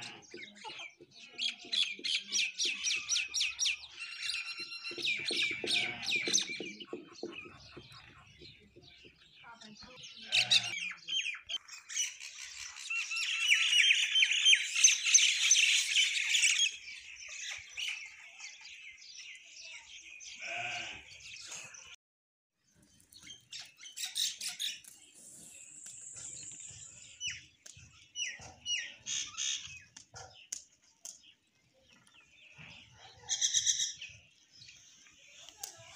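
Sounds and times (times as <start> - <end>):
flock of birds chirping: 0.0 - 22.0, 22.6 - 35.9.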